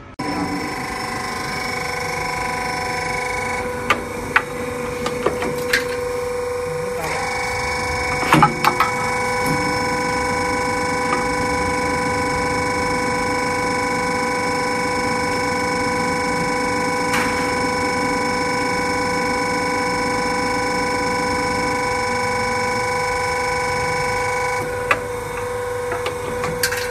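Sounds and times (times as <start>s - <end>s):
machine whining: 0.0s - 26.9s.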